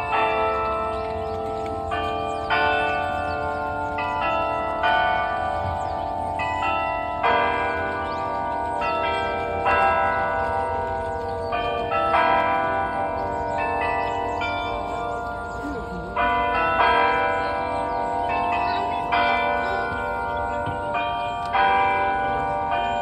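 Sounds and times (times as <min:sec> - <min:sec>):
clock bells playing a slow tune: 0:00.0 - 0:23.0.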